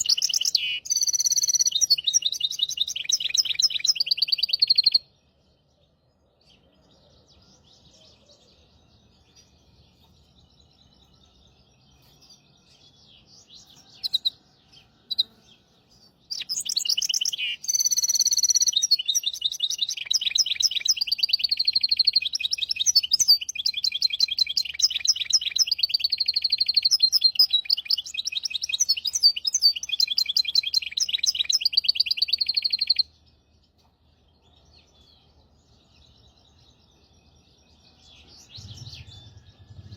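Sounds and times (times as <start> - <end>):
finch twitters and calls: 0.0 - 5.0, 6.5 - 39.9
finch singing trilling song: 0.0 - 39.9.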